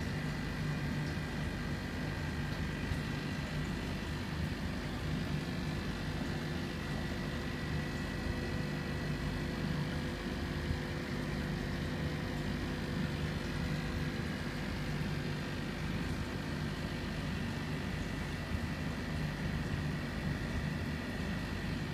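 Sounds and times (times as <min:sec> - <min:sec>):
aquarium pump humming: 0:00.0 - 0:21.9.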